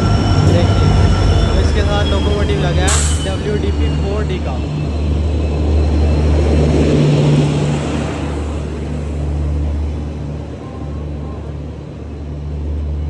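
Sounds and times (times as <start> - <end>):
broad rush of noise: 0.0 - 13.0
diesel locomotive engine idling: 0.0 - 13.0.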